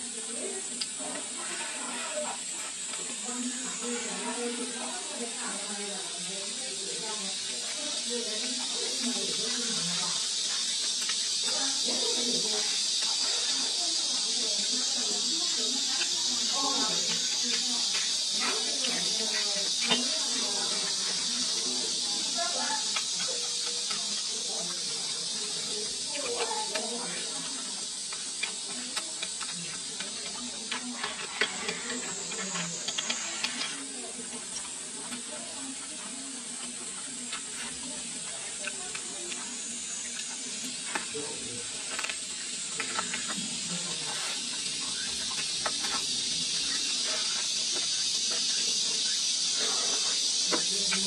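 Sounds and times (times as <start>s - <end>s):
steady high hiss: 0.0s - 51.0s.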